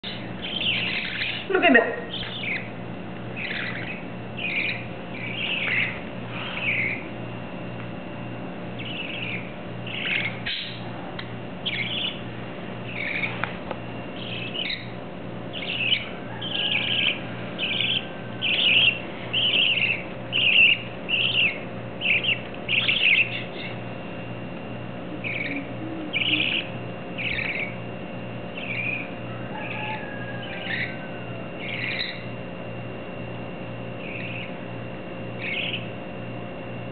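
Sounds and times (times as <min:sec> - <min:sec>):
budgerigar chicks chirping: 0:00.0 - 0:07.2, 0:08.7 - 0:13.4, 0:14.1 - 0:24.0, 0:25.1 - 0:32.4, 0:33.9 - 0:34.7, 0:35.3 - 0:36.0.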